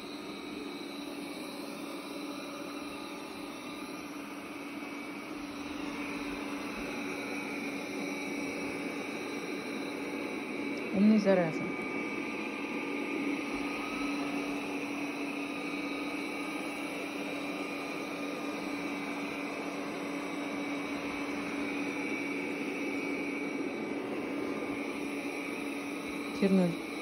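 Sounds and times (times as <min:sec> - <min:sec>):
robot vacuum cleaner whirring: 0:00.0 - 0:27.0.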